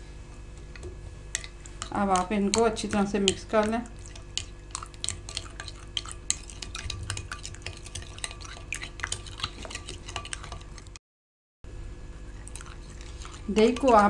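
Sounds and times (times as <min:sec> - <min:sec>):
spoon stirring yogurt in a bowl: 0:00.6 - 0:11.0, 0:12.3 - 0:14.0.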